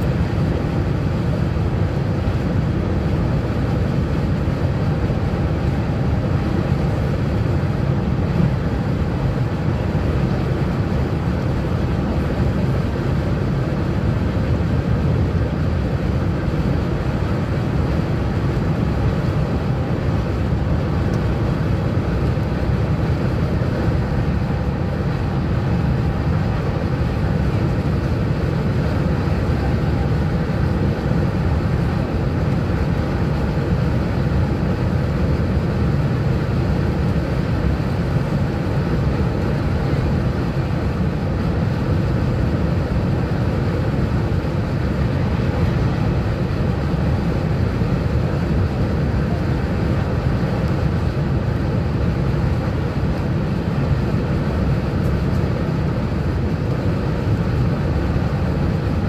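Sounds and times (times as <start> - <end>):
train rumble inside cabin: 0.0 - 59.0.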